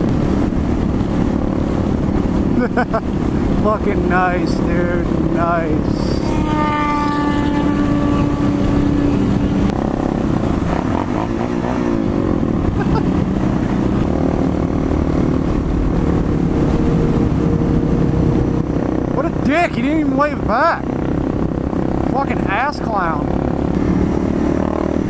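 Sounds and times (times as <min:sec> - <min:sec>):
wind noise on microphone: 0:00.0 - 0:22.6
motorcycle engine cruising: 0:00.0 - 0:25.0
other motorcycle engines: 0:00.0 - 0:25.0.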